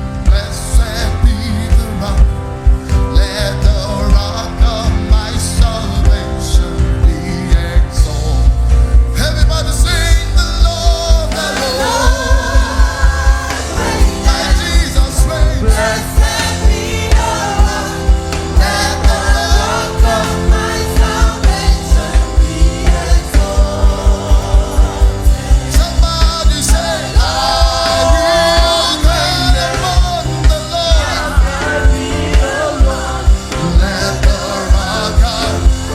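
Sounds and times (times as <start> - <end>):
band with fast drum beat: 0.0 - 35.9
gospel singing voices: 0.0 - 35.9.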